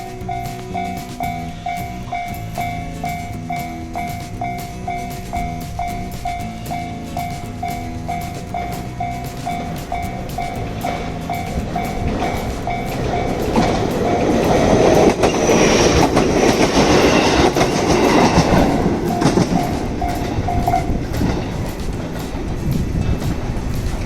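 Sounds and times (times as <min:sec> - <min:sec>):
electronic crossing bell ringing: 0:00.0 - 0:22.9
train wheels clacking over rail joints: 0:00.0 - 0:24.0.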